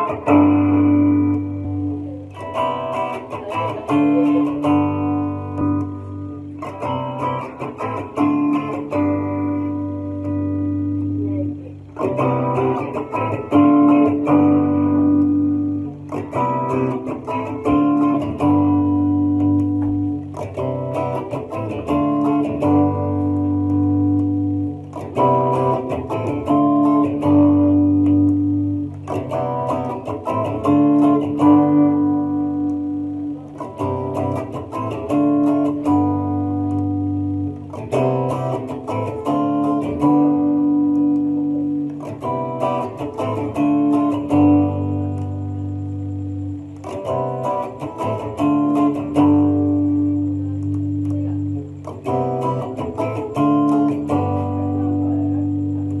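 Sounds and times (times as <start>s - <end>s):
electric guitar riff: 0.0s - 56.0s.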